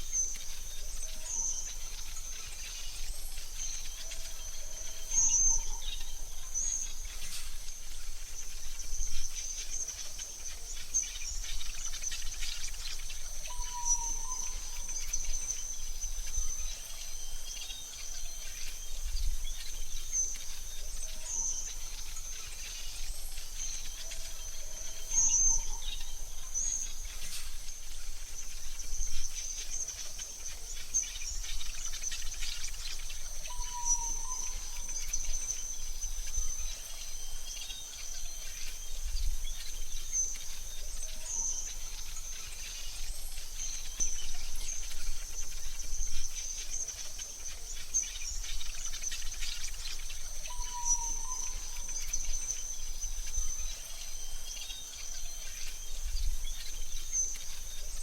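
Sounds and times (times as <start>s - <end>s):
bird chirps: 0.0s - 58.0s
high-pitched insect trill: 0.0s - 58.0s.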